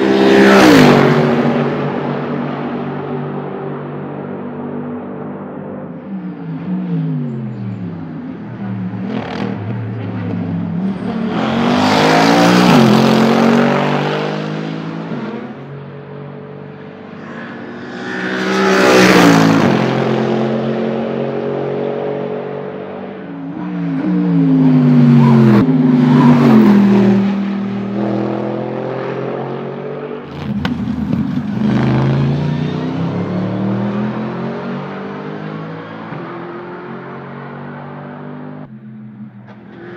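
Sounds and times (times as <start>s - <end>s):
cars passing at speed: 0.0s - 39.9s
race car engine at full throttle: 0.0s - 39.9s.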